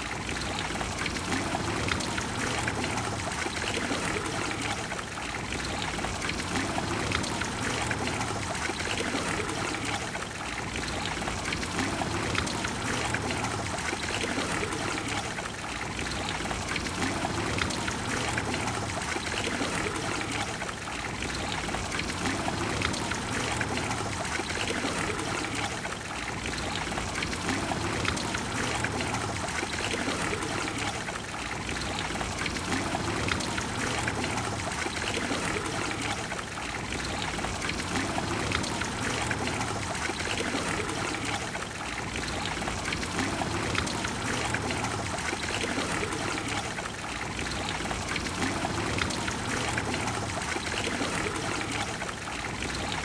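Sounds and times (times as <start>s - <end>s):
fountain water splashing into basin: 0.0s - 53.0s.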